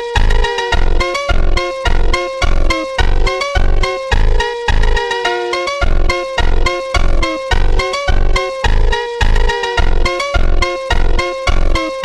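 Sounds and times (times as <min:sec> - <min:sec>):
upbeat music with bouncy beat: 0:00.0 - 0:12.0.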